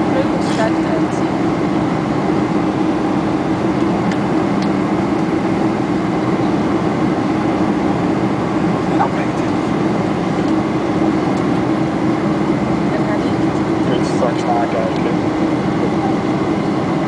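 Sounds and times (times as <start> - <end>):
airplane engines droning: 0.0 - 17.0
constant low hum: 0.0 - 17.0.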